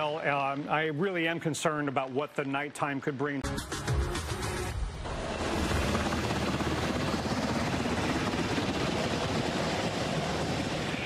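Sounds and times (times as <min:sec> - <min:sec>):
helicopter rotor chop: 0:00.0 - 0:11.0.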